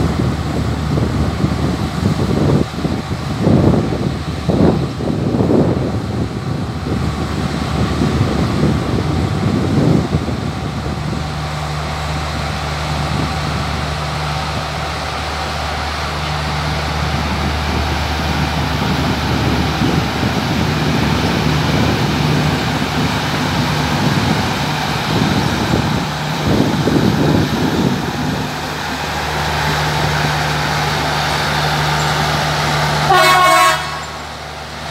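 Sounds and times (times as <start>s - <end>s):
diesel locomotive engine droning: 0.0s - 34.9s.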